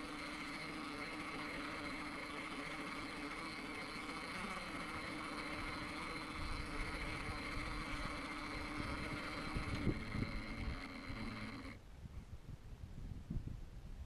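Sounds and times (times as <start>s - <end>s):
electric motor whine: 0.0s - 11.8s
tyres rumbling on rock: 0.0s - 11.8s.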